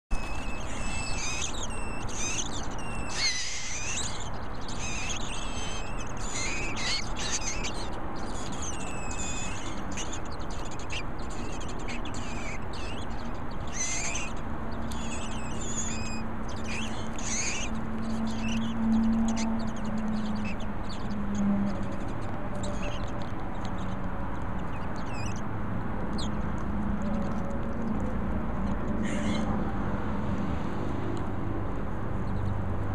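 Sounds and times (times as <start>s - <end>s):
nestlings begging calls: 0.1s - 30.0s.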